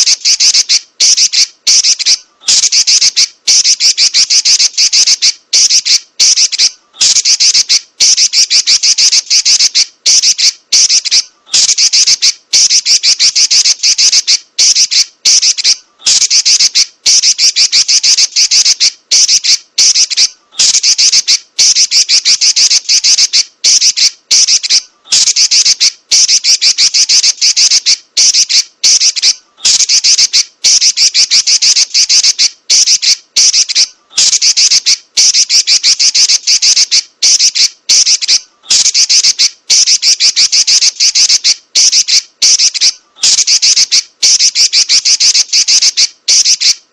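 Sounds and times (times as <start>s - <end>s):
bird chattering trills: 0.0s - 46.8s.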